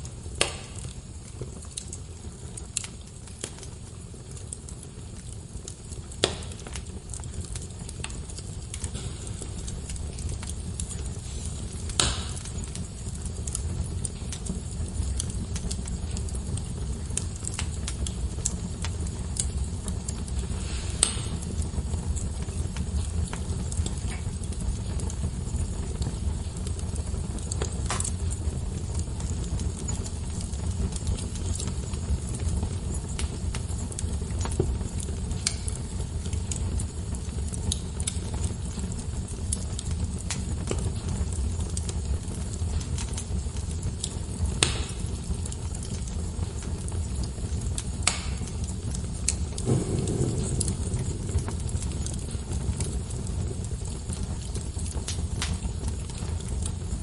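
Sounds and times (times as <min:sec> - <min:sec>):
fire crackling and popping: 0:00.0 - 0:57.0
fire rumbling: 0:00.0 - 0:57.0.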